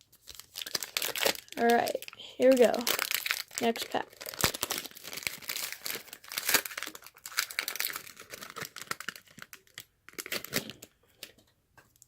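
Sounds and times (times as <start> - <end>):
plastic wrapper tearing and crinkling: 0.0 - 11.3.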